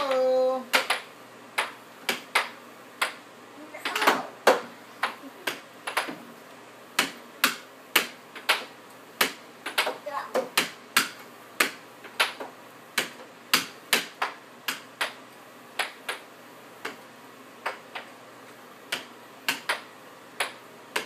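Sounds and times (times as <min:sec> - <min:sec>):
air hockey puck clacking: 0:00.1 - 0:03.2, 0:03.8 - 0:06.2, 0:07.0 - 0:15.2, 0:15.8 - 0:16.2, 0:17.6 - 0:18.1, 0:18.9 - 0:21.0.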